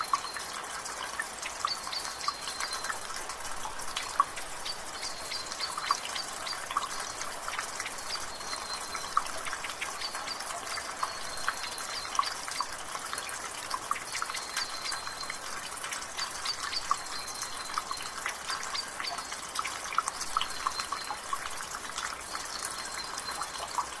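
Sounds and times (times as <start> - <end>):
rainwater dripping from gutter: 0.0 - 24.0.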